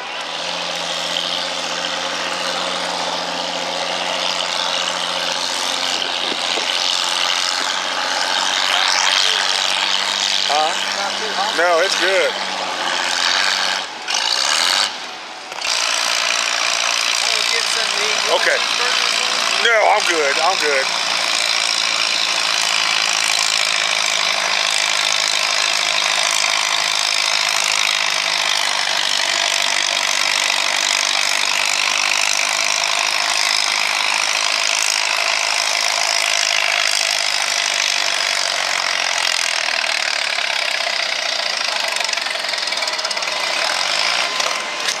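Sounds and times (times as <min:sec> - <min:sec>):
tractor engine running under load: 0:00.0 - 0:45.0.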